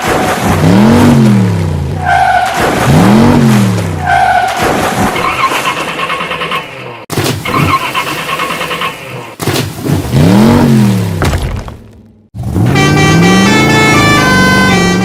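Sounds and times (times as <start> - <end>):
car engine revving: 0.5 - 11.2, 12.3 - 15.0.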